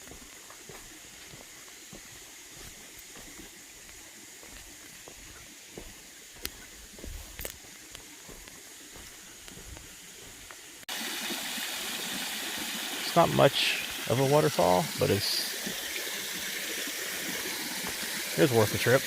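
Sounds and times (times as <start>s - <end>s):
faint outdoor hiss: 0.0s - 10.8s, 11.9s - 19.0s
small waterfall rushing: 0.0s - 19.0s.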